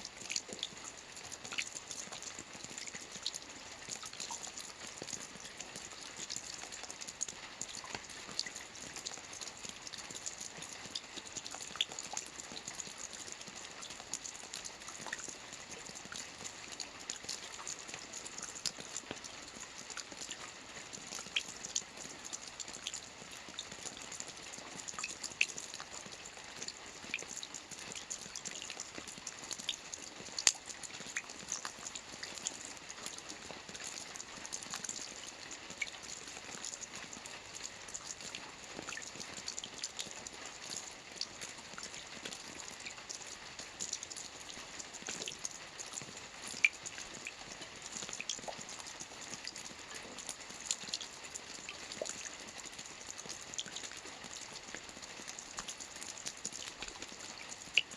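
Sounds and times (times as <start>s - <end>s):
rain falling on water: 0.0s - 57.9s
water drips: 0.0s - 57.9s.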